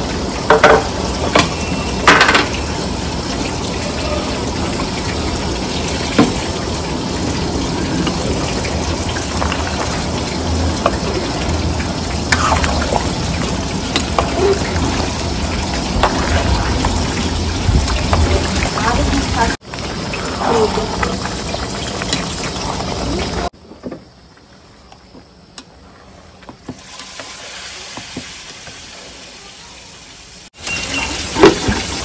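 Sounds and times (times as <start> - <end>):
broth boiling: 0.0 - 32.0.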